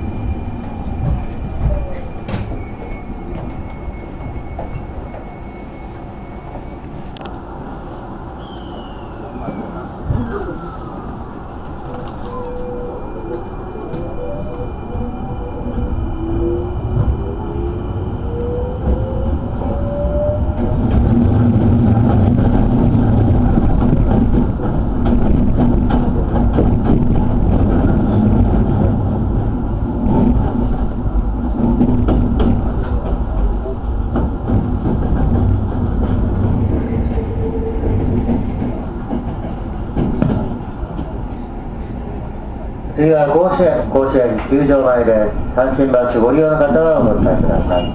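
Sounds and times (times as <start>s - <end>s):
low train hum: 0.0s - 47.9s
rail rumble: 0.0s - 47.9s.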